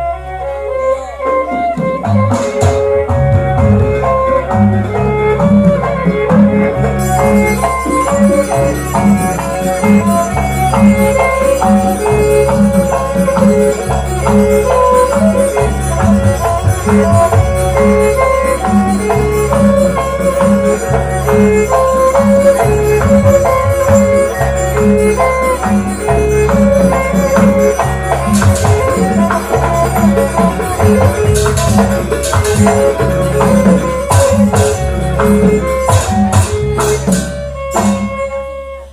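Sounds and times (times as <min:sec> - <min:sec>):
low percussion pattern: 0:00.0 - 0:38.9
steady melody: 0:00.0 - 0:38.9
jingling rattle beat: 0:05.1 - 0:37.1.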